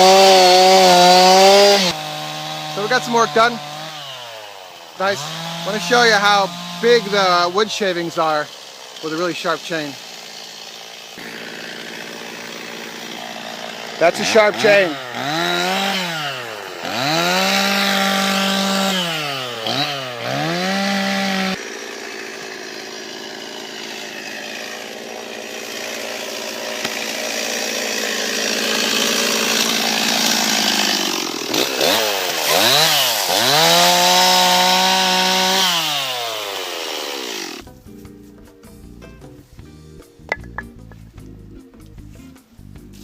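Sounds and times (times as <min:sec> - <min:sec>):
chainsaw cutting a log: 0:00.0 - 0:37.7
chainsaw revving: 0:00.0 - 0:37.7.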